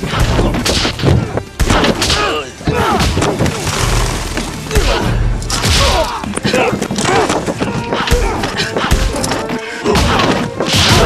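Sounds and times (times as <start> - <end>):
men grunting and crying out: 0.3 - 11.0.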